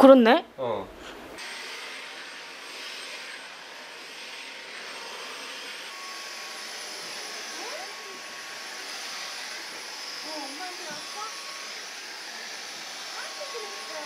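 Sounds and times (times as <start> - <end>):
stick vacuum cleaner running: 1.4 - 14.0.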